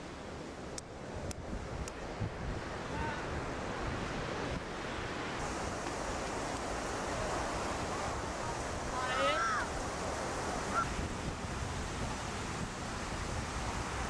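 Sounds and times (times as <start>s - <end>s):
ocean surf breaking: 0.0s - 14.0s
wind buffeting microphone: 1.0s - 14.0s.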